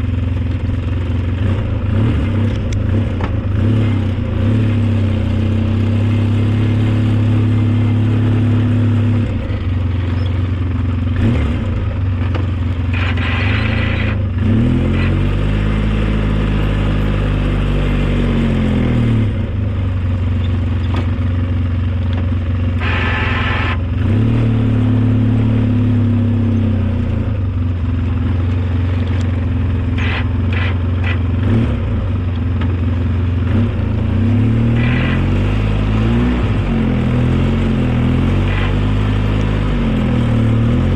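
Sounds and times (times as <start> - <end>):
snowplow engine under load: 0.0 - 40.9.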